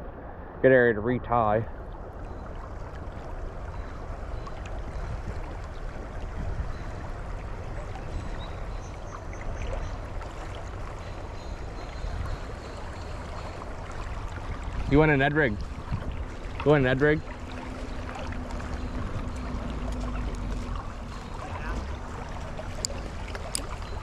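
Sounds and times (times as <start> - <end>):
creek water rushing: 1.7 - 24.0.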